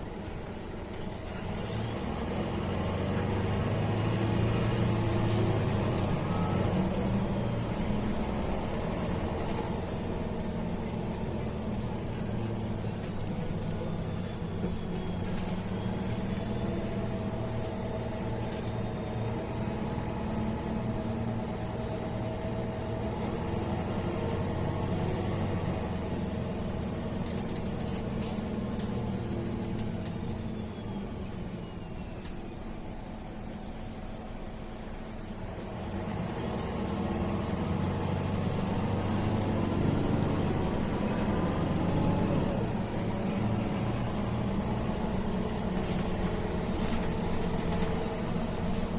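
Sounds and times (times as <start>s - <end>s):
bus diesel engine running: 0.0s - 48.9s.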